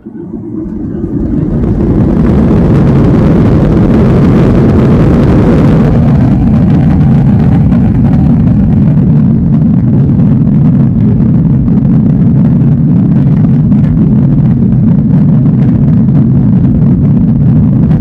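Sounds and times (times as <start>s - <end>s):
jet engines spooling up: 0.0s - 18.0s.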